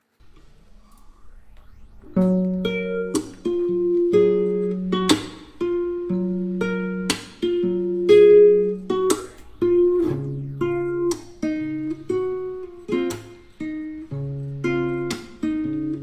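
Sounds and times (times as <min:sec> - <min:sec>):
acoustic guitar plucking: 0:02.3 - 0:16.0.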